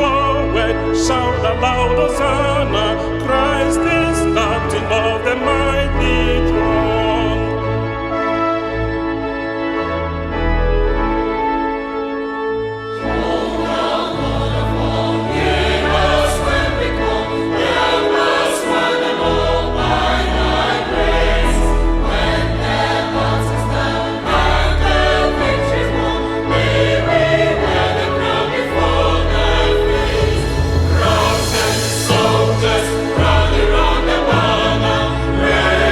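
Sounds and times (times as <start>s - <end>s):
choir singing a hymn: 0.0s - 9.4s, 12.8s - 35.9s
organ sustained bass notes: 0.0s - 35.9s.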